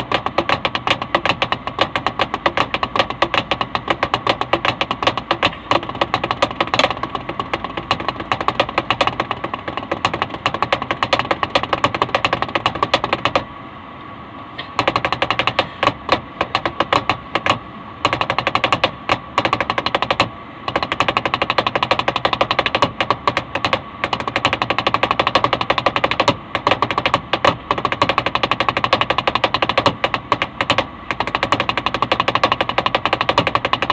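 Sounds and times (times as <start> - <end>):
rapid drumming: 0.0 - 13.4, 14.8 - 33.9.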